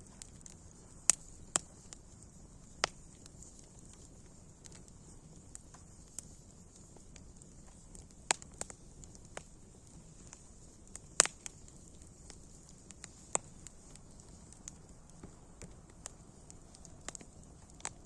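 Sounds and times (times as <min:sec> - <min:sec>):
campfire crackling and popping: 0:00.0 - 0:18.0
fire hissing: 0:00.0 - 0:18.0.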